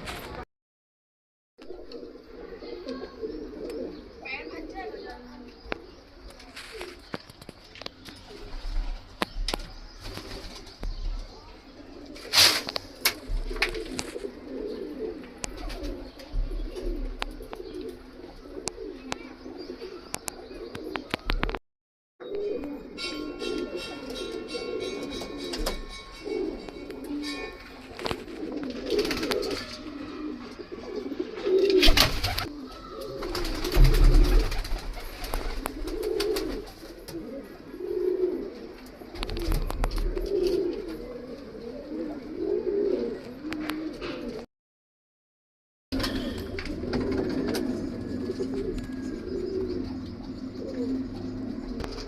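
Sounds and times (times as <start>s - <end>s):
pigeons cooing: 1.6s - 7.2s, 7.8s - 21.6s, 22.2s - 44.5s, 46.0s - 52.0s.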